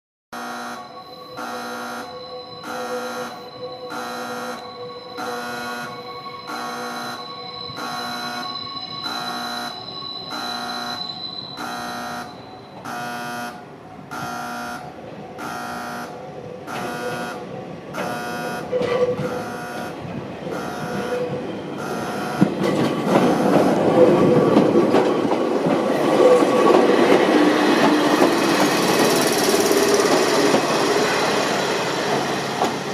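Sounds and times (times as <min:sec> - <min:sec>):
level crossing warning bell: 0:00.4 - 0:32.1
train wheels rumbling on rails: 0:02.1 - 0:32.9.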